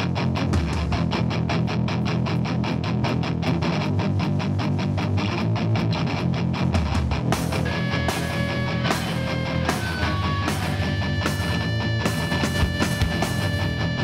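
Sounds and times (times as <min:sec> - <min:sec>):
punk band playing live: 0:00.0 - 0:14.0.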